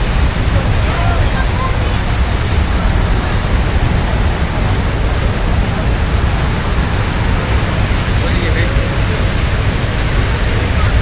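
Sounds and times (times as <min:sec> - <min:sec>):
deep rumble: 0:00.0 - 0:11.0
water churning in ship's wake: 0:00.0 - 0:11.0
wind buffeting microphone: 0:00.0 - 0:11.0.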